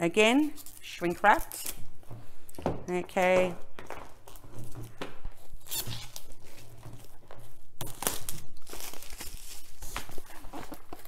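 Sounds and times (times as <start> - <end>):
plastic wrap crinkling and tearing: 0.2 - 2.0, 3.8 - 11.0.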